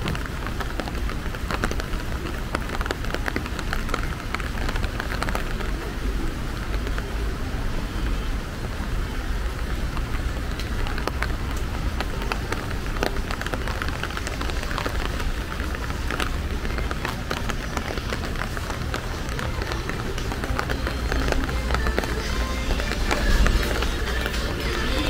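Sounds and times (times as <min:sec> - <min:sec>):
raindrop ticks: 0:00.0 - 0:07.4, 0:08.0 - 0:25.0.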